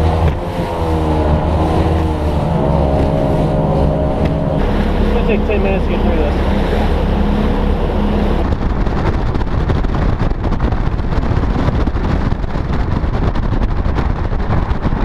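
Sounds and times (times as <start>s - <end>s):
outboard motor running: 0.0s - 15.0s
wind buffeting microphone: 0.0s - 15.0s.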